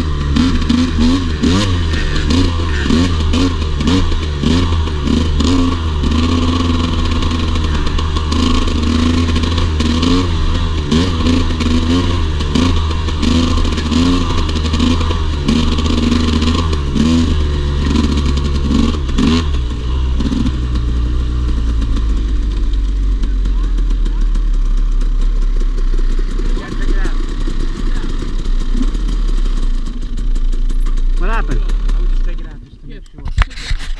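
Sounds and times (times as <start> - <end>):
dirt bike engine revving: 0.0 - 32.6
clatter: 0.0 - 33.9.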